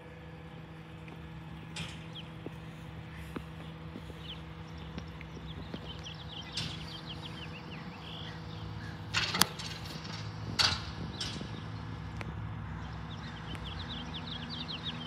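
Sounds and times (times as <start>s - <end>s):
garbage truck engine idling: 0.0s - 15.0s
small birds chirping: 0.8s - 15.0s.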